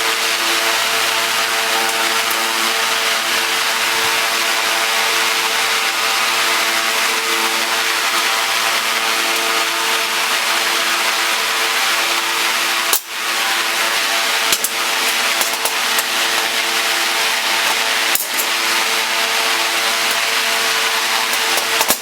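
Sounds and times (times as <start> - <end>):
motor-driven machine running: 0.0 - 22.0.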